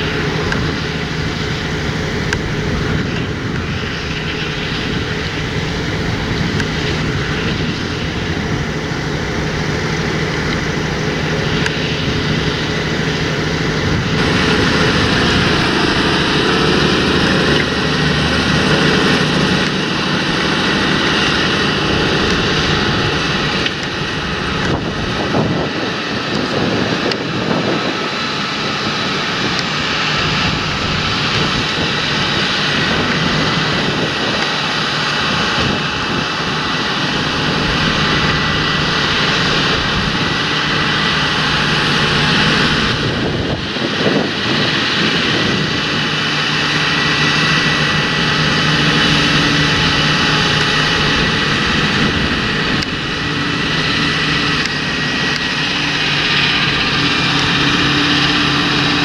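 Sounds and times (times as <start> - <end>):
tractor engine droning: 0.0 - 59.0.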